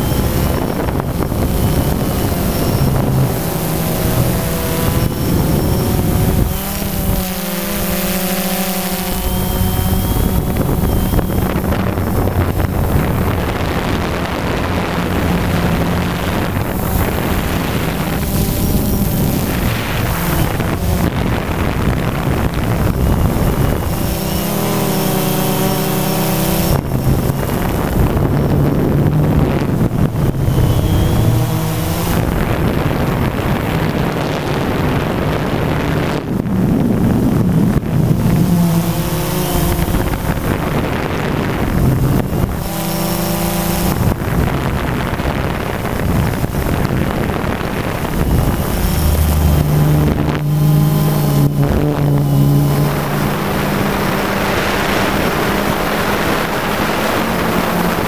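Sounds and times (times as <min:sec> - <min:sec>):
drone propellers buzzing: 0:00.0 - 0:58.0
wind buffeting microphone: 0:00.0 - 0:58.0.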